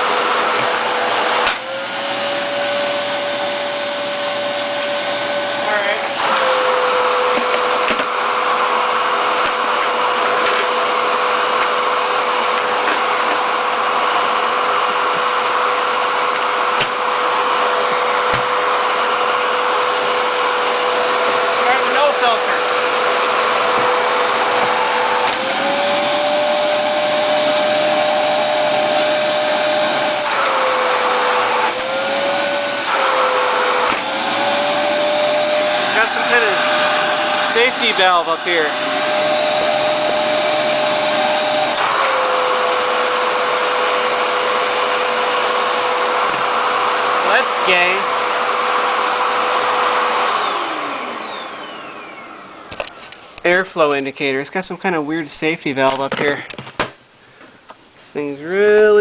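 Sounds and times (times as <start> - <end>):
vacuum cleaner motor whine: 0.0 - 53.9.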